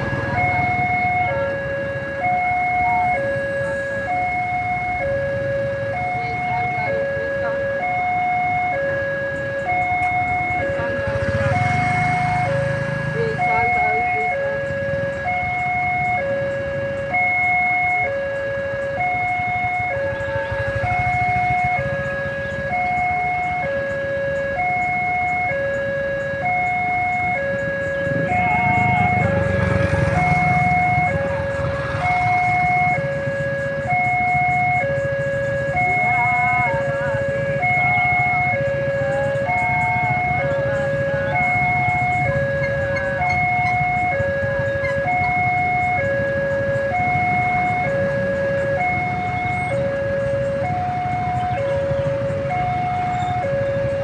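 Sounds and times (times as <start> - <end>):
idling engines rumble: 0.0 - 54.0
two-tone level crossing alarm: 0.0 - 54.0.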